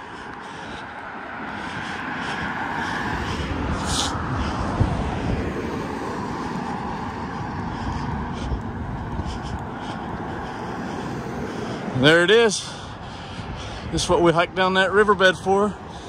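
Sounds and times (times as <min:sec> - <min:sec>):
pickup truck engine and tyres: 0:00.0 - 0:16.0.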